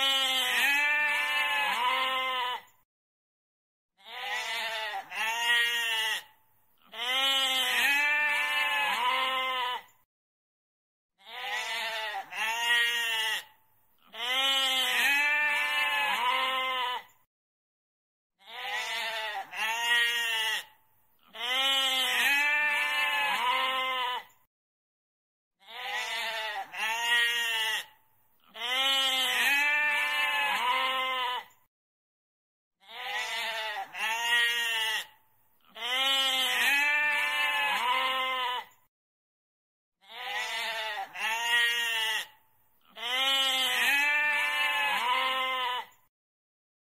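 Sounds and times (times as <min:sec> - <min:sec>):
goat bleating: 0:00.0 - 0:02.7, 0:04.0 - 0:10.0, 0:11.2 - 0:17.2, 0:18.4 - 0:24.4, 0:25.6 - 0:31.6, 0:32.8 - 0:38.8, 0:40.0 - 0:46.0.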